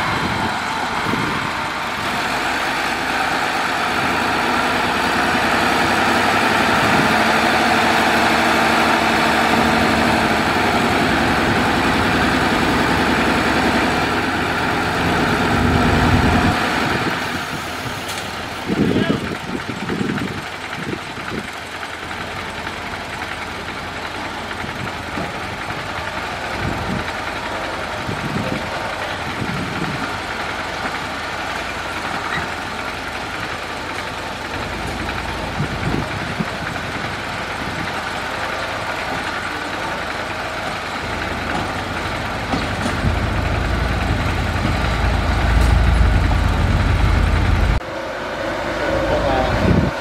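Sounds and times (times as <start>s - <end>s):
truck engine rumbling: 0.0s - 50.0s.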